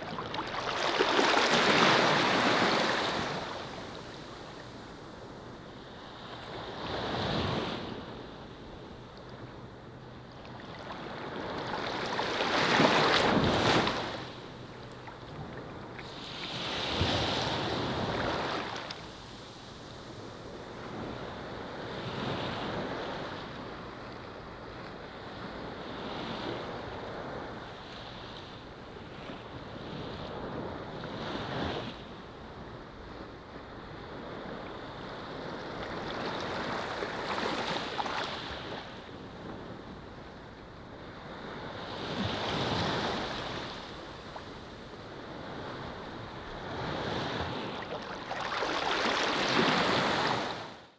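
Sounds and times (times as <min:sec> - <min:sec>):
waves breaking on a beach: 0:00.0 - 0:50.9.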